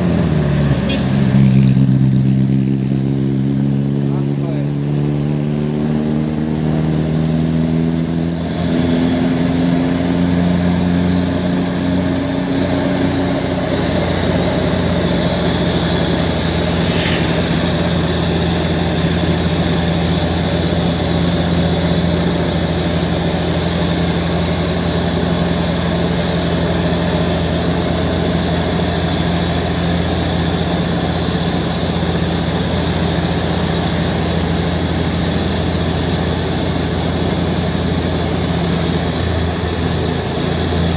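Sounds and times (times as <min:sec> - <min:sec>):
heavy truck engine running: 0:00.0 - 0:40.9.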